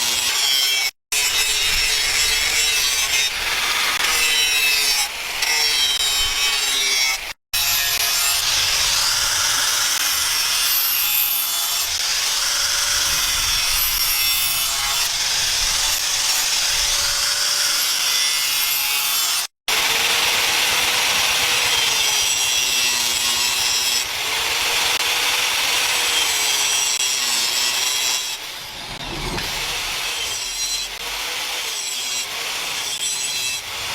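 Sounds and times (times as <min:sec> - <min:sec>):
tool sawing or grinding: 0:00.0 - 0:33.9.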